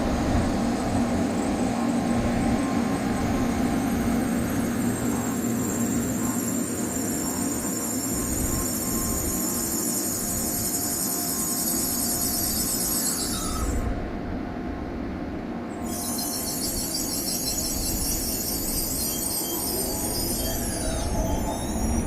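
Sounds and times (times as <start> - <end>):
high shrill train noise: 0.0 - 14.5, 15.5 - 22.0
train rumbling past: 0.0 - 22.0.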